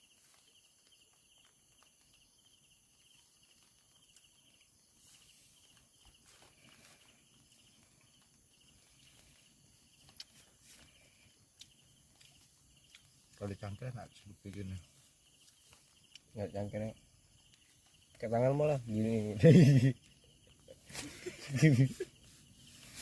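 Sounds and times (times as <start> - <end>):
cricket-like trill: 0.0 - 23.0
high insect whine: 0.0 - 23.0.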